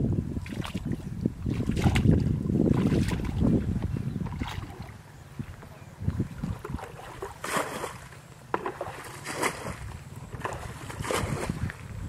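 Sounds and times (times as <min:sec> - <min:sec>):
wind rumble on microphone: 0:00.0 - 0:08.0, 0:08.8 - 0:12.0.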